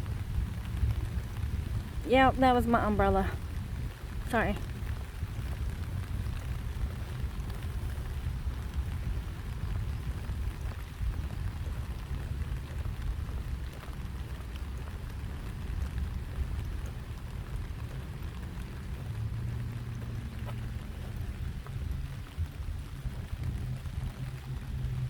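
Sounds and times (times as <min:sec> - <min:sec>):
rain pattering on umbrella: 0:00.0 - 0:25.0
steady low rumble: 0:00.0 - 0:25.0.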